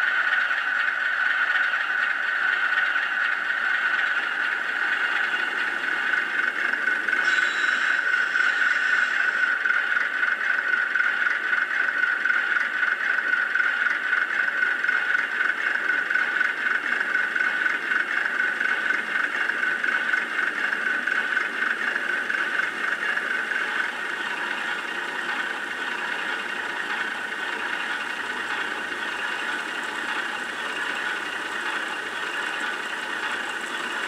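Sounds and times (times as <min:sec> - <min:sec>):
diesel engine through small speaker: 0:00.0 - 0:34.0.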